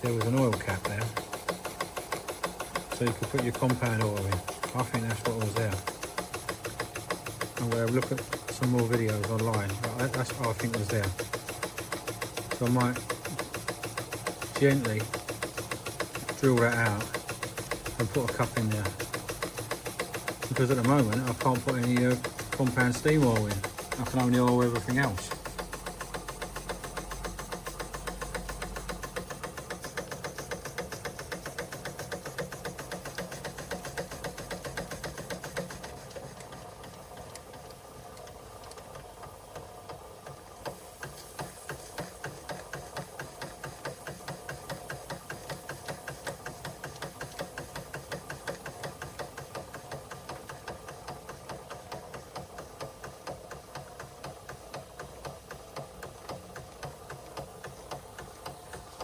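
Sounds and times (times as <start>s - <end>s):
steam engine mechanical beat: 0.0s - 59.0s.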